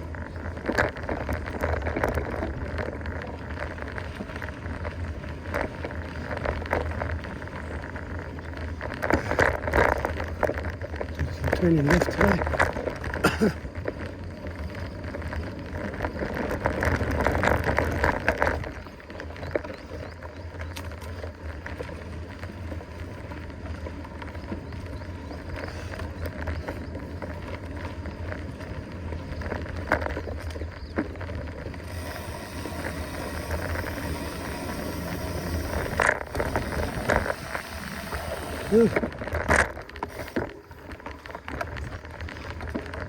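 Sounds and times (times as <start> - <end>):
mountain bike rolling and rattling: 0.0 - 43.0.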